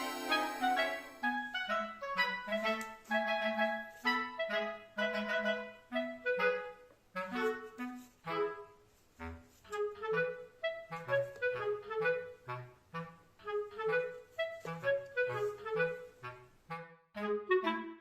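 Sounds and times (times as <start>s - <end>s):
light bouncy melody with bass: 0.0s - 18.0s.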